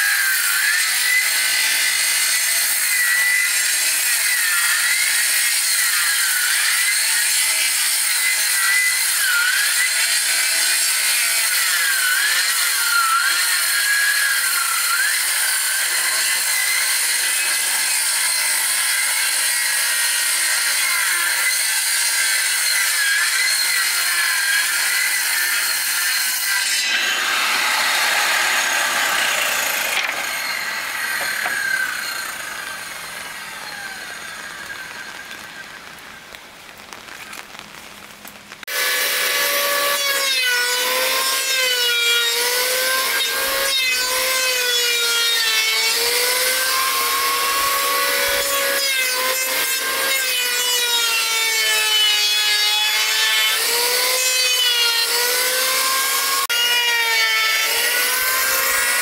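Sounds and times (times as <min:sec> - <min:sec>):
wood being sawn: 0:00.0 - 0:36.0, 0:38.7 - 0:59.0.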